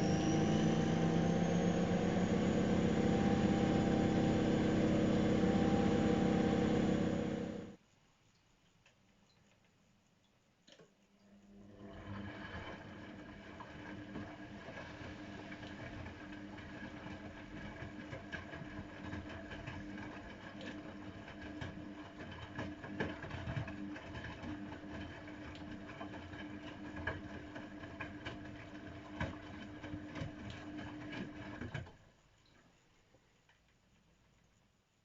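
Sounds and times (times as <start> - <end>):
clicks and knocks from tumbling wash: 0.0 - 7.8, 11.8 - 34.6
washing machine motor humming: 0.0 - 7.8, 11.5 - 31.9.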